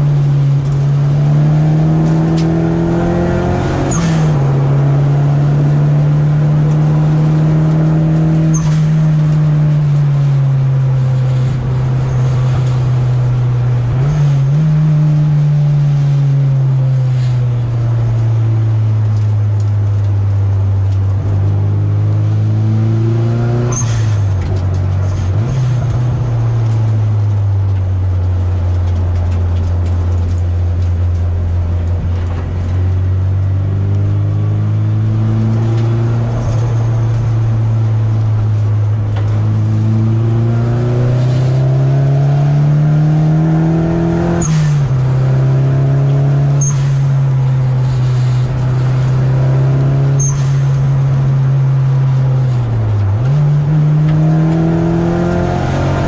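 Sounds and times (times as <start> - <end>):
car engine and exhaust: 0.0 - 56.0.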